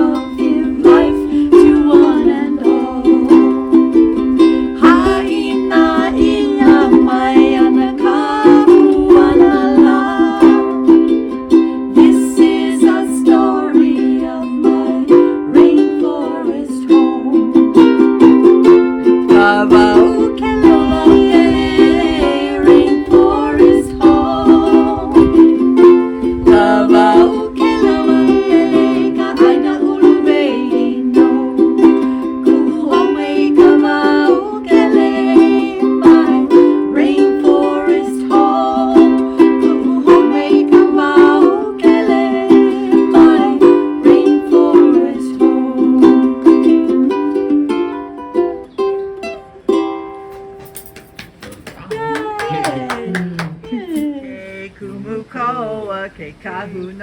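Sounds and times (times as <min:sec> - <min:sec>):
ukulele strumming chords: 0:00.0 - 0:54.1.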